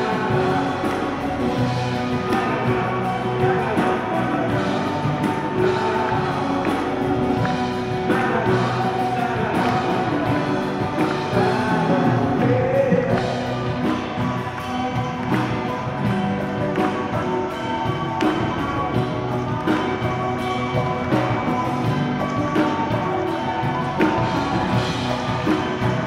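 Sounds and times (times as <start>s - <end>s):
acoustic guitar: 0.0s - 26.0s
voices singing: 0.0s - 26.0s.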